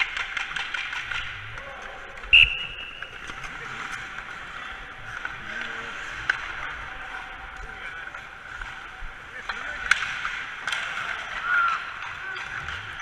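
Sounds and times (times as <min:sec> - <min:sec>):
hockey sticks clacking: 0:00.0 - 0:13.0.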